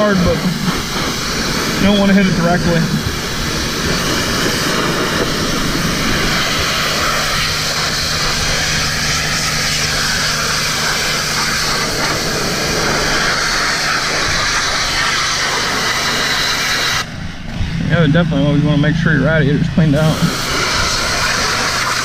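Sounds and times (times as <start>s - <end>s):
pressure washer water jet hissing: 0.0s - 17.2s, 19.8s - 22.0s
machine humming: 0.0s - 22.0s.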